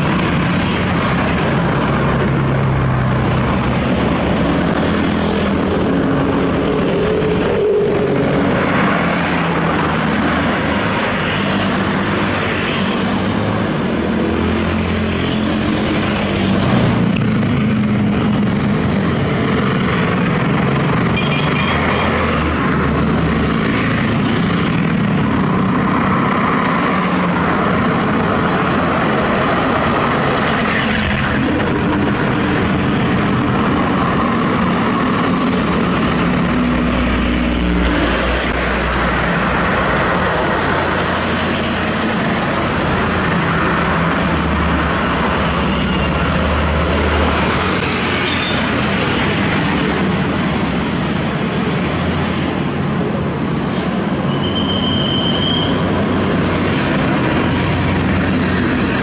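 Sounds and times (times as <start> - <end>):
road traffic: 0.0 - 59.0
truck diesel engines rumbling: 0.0 - 59.0.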